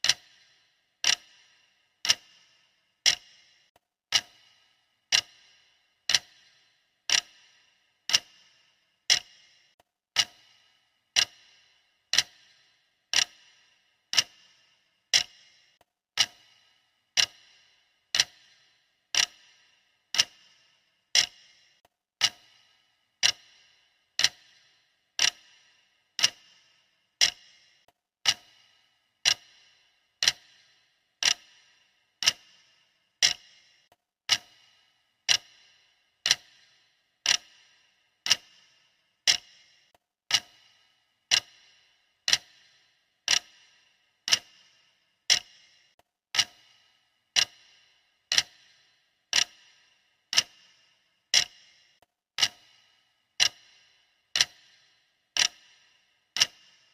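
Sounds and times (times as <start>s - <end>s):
clock ticking: 0.0s - 56.9s.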